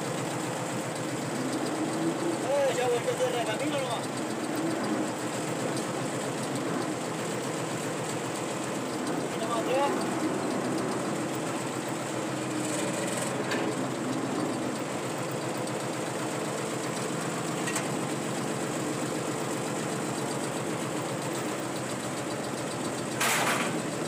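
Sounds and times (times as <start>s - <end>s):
tractor engine running at low revs: 0.0s - 24.0s.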